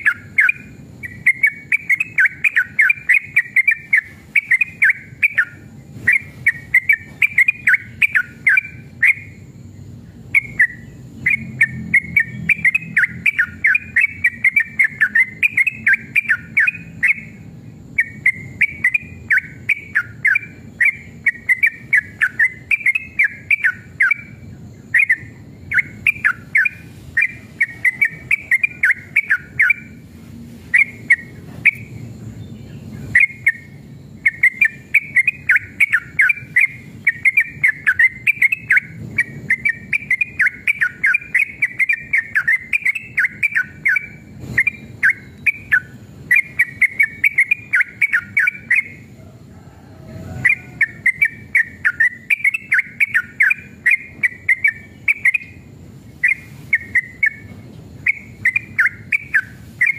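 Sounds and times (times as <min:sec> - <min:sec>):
bird singing chattering runs: 0:00.0 - 0:30.0, 0:30.7 - 0:49.2, 0:50.4 - 0:59.9.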